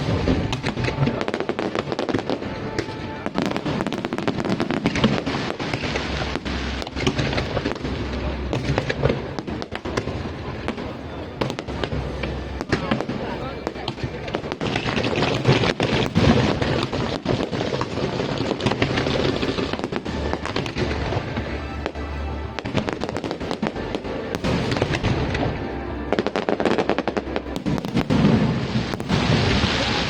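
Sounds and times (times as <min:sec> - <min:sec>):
fireworks bangs and crackles: 0:00.0 - 0:30.0
music playing: 0:00.0 - 0:30.0.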